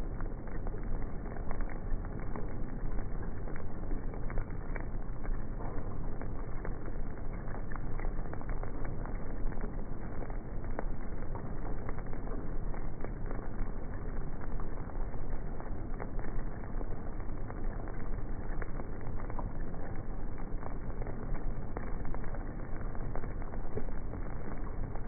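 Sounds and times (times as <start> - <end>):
rain ticks: 0.0 - 25.0.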